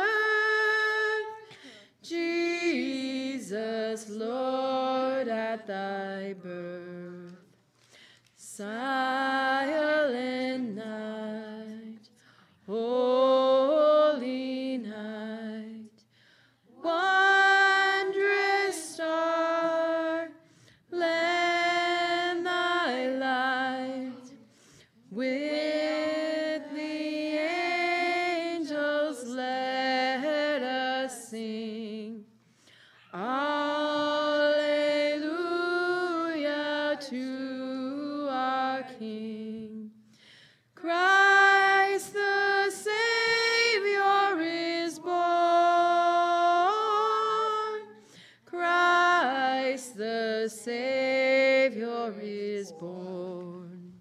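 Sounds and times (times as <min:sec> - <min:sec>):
women singing unaccompanied: 0:00.0 - 0:07.5, 0:08.4 - 0:12.1, 0:12.7 - 0:16.0, 0:16.7 - 0:32.3, 0:33.1 - 0:40.0, 0:40.8 - 0:54.0.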